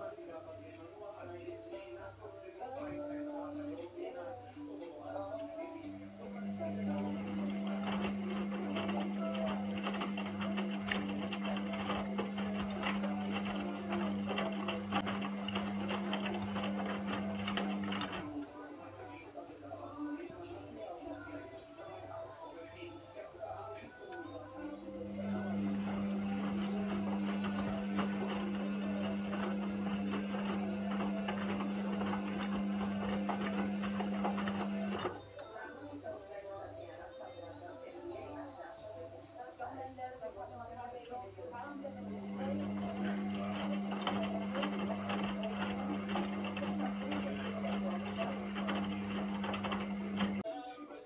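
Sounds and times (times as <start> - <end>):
washing machine motor hum: 0.0 - 37.0, 40.2 - 50.5.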